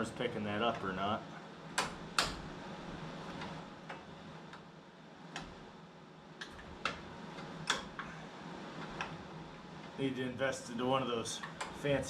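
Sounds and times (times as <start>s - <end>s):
space heaters humming: 0.0s - 12.0s.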